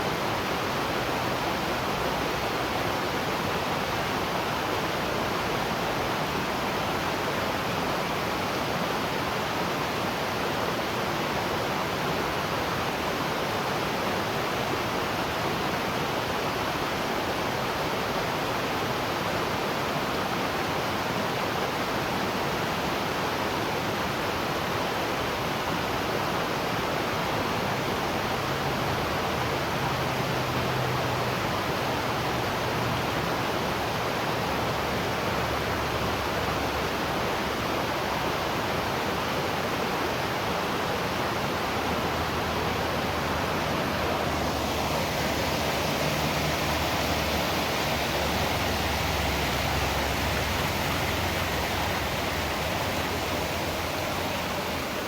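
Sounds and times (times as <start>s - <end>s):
waterfall roar: 0.0s - 55.0s.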